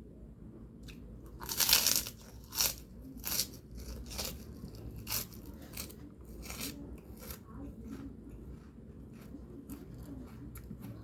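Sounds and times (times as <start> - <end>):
crunching bites and chewing: 0.8 - 11.0.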